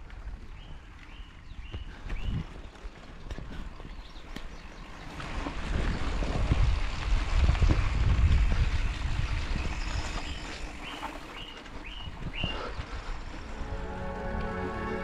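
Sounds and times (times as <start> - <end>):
mountain bike rattling on dirt track: 0.0 - 13.6
wind buffeting microphone: 0.0 - 14.7.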